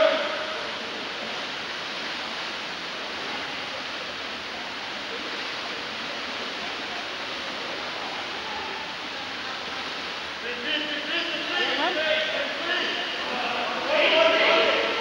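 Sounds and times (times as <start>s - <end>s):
pool water churning and splashing: 0.0s - 15.0s.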